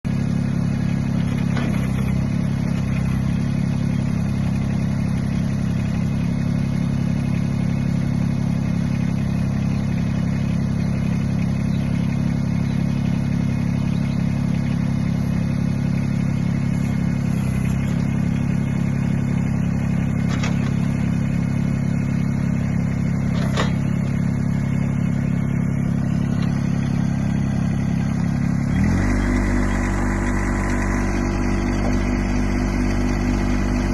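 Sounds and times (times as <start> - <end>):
diesel tractor engine idling: 0.1 - 33.9.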